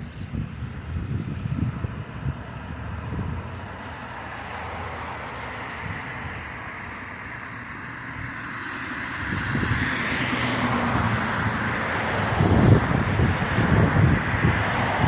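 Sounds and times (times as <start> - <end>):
background traffic hum: 0.0 - 15.0
car passing: 0.0 - 15.0.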